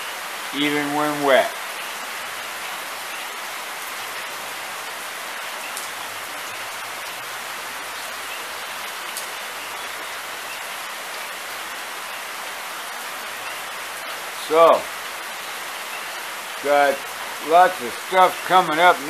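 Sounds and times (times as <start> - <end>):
steady rain hissing: 0.0 - 19.0.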